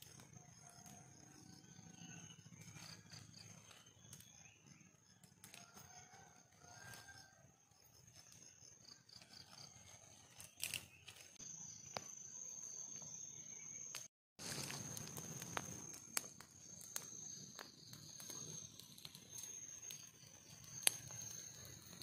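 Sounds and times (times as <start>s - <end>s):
twig fire crackling: 0.0s - 12.2s, 13.8s - 22.0s
insect drone: 0.0s - 22.0s.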